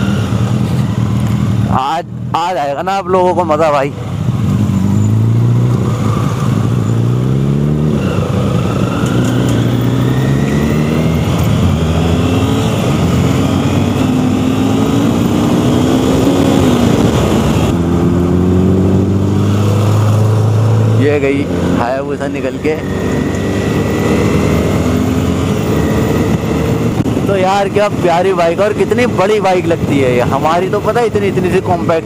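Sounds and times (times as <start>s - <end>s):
motorcycle engine accelerating: 3.1s - 32.0s
wind rush: 3.9s - 21.8s, 22.8s - 31.9s.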